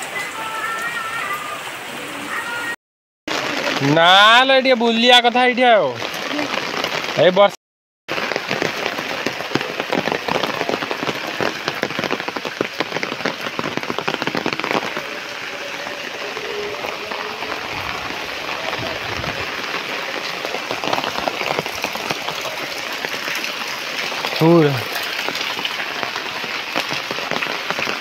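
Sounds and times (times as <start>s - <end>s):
rain falling on road and foliage: 0.0s - 28.0s.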